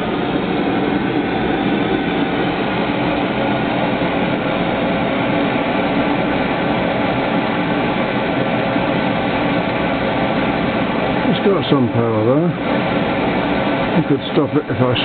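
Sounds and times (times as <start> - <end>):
hot air engine running: 0.0 - 15.0.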